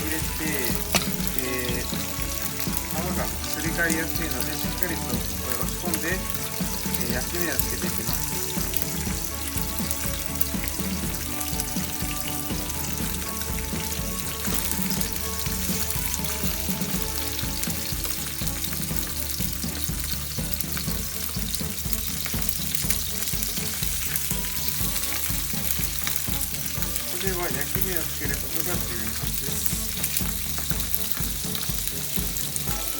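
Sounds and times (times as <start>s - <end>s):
fish sizzling in a frying pan: 0.0s - 32.9s.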